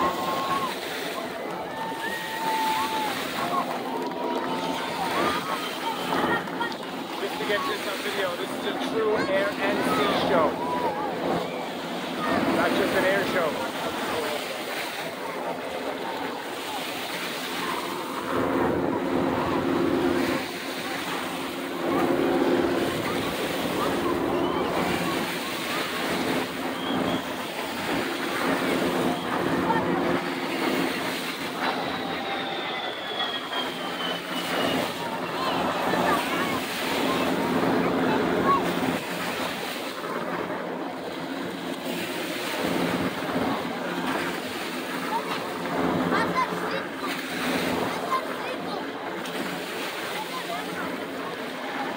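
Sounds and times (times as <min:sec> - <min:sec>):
distant aircraft engines drone: 0:00.0 - 0:51.9
gentle surf: 0:00.0 - 0:51.9
small waves washing: 0:00.0 - 0:51.9.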